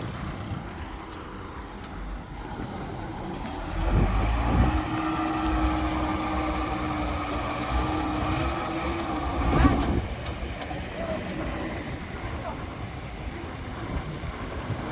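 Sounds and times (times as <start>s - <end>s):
heavy diesel engine running: 0.0s - 14.9s.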